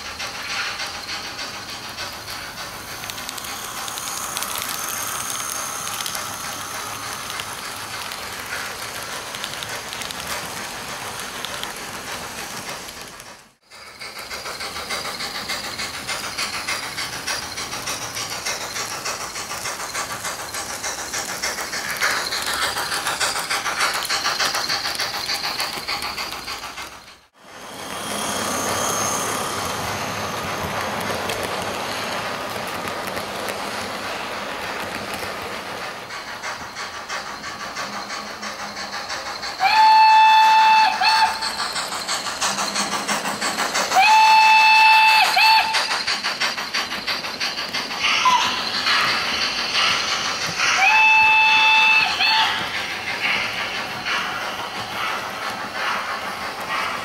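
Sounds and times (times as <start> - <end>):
model steam locomotive hiss: 0.0 - 57.0
small wheels clattering on track: 0.0 - 57.0.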